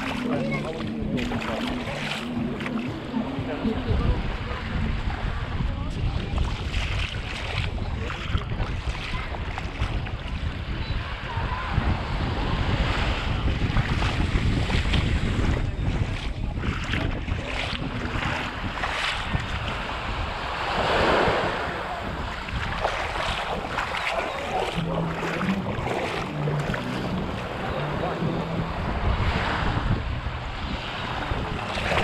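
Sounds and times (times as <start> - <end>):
small waves washing on sand: 0.0 - 32.0
wind buffeting microphone: 0.0 - 32.0.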